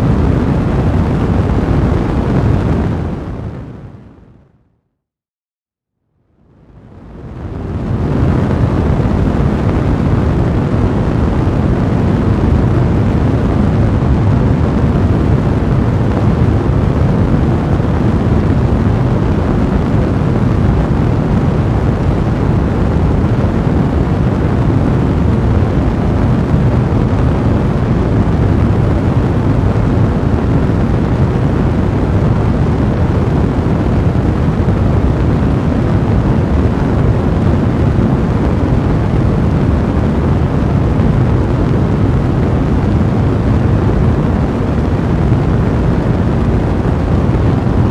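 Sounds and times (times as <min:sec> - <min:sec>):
fire blaze rushing: 0:00.0 - 0:04.1, 0:06.7 - 0:47.9.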